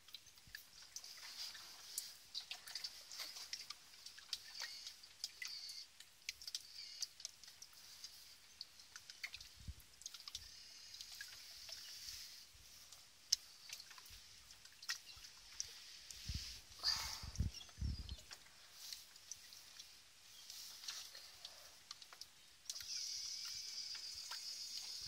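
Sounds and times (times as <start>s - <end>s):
shallow water trickling: 0.0s - 25.0s
water drips: 0.0s - 25.0s.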